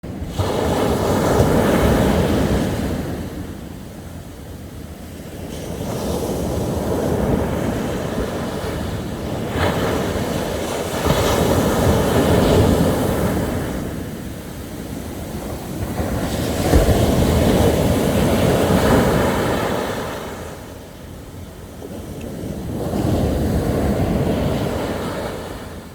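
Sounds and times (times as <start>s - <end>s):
sea waves breaking on beach: 0.1s - 4.2s, 4.9s - 25.9s.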